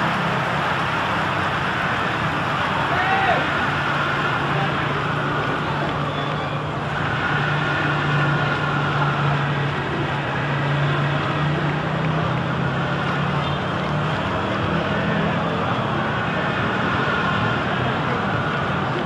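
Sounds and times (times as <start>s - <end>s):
outdoor noise: 0.0s - 19.0s.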